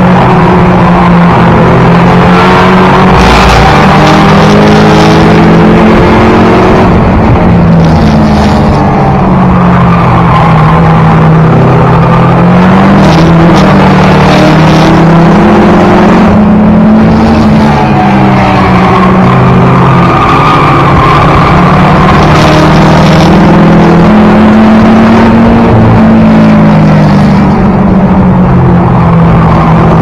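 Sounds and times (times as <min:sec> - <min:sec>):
race car engine at high revs: 0:00.0 - 0:30.0.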